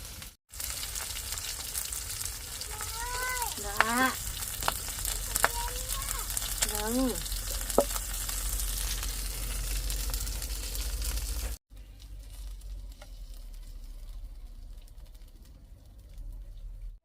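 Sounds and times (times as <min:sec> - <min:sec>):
food sizzling in a pan: 0:00.0 - 0:15.6.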